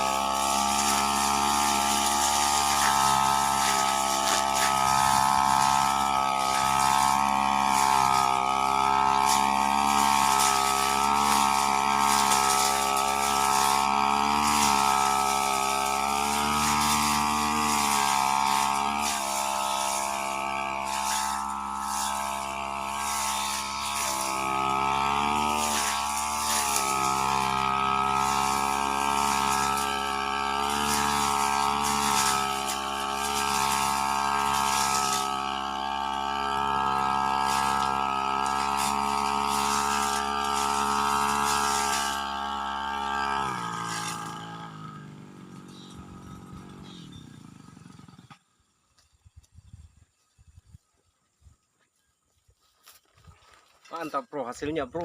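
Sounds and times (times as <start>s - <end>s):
brush cutter engine revving: 0.0s - 49.8s, 52.8s - 55.0s.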